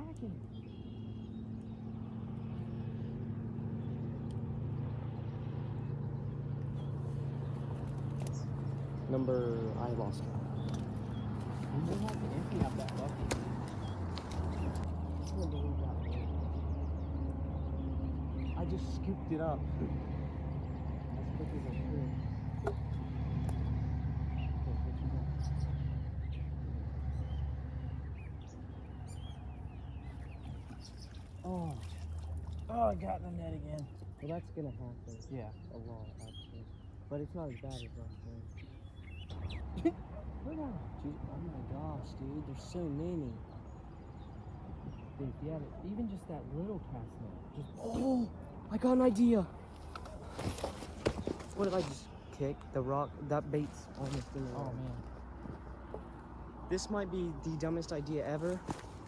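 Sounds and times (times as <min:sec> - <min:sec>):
engine humming: 0:00.0 - 0:59.0
small birds chirping: 0:00.0 - 0:59.0.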